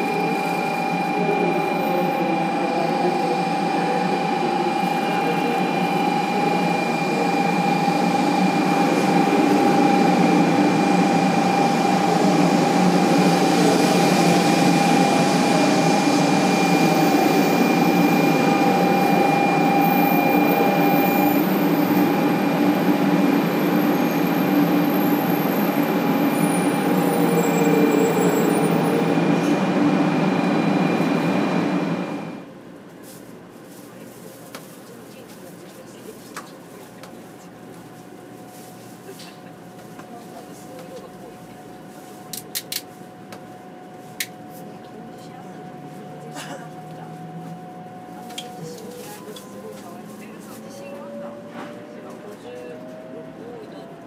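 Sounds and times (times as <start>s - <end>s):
steady train whine: 0.0s - 32.8s, 35.9s - 54.0s
train running noise: 0.0s - 54.0s.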